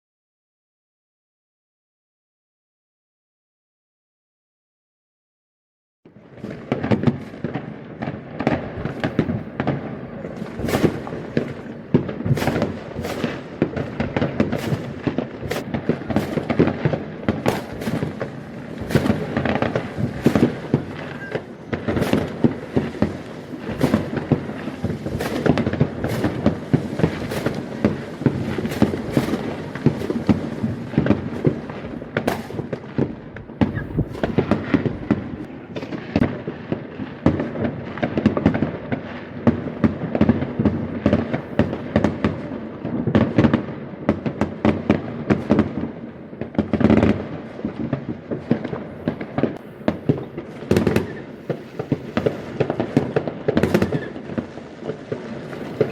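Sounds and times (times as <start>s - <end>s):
fireworks cracking and banging: 6.1s - 55.9s.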